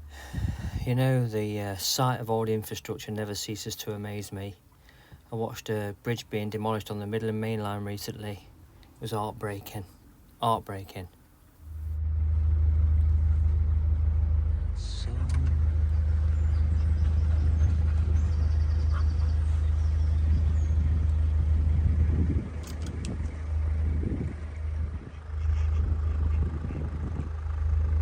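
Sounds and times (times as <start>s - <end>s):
diesel boat engine rumbling: 0.0s - 28.0s.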